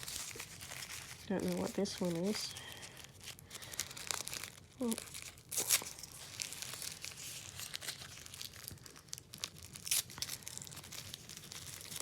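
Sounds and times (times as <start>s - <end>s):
wrapping crinkling and tearing: 0.0s - 12.0s.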